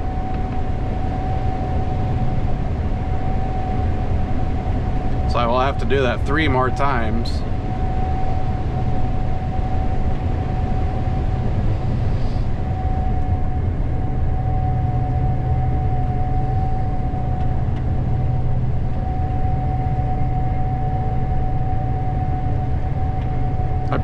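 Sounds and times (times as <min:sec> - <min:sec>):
combine engine hum: 0:00.0 - 0:24.0
constant machine whine: 0:00.0 - 0:24.0.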